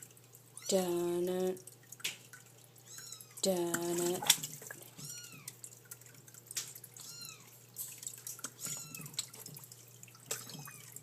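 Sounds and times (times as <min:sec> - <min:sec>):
water drips and splashes: 0:00.0 - 0:11.0.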